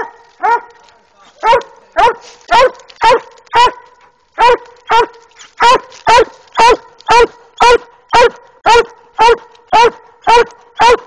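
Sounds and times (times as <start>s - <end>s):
dog barking: 0.0s - 0.8s, 1.4s - 11.0s.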